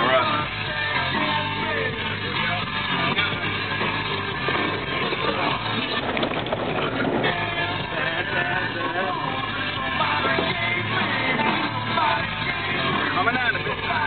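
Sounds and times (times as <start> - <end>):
rock music: 0.0 - 14.0
rough noise under music: 0.0 - 14.0.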